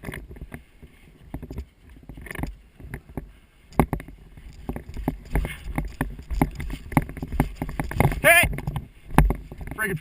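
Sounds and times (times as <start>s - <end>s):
sharp clicks and knocks: 0.0s - 10.0s.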